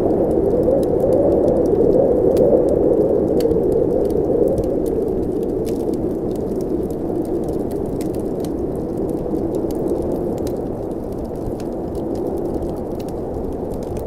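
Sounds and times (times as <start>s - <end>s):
blizzard wind rushing: 0.0s - 14.0s
wood fire crackling: 0.0s - 14.0s.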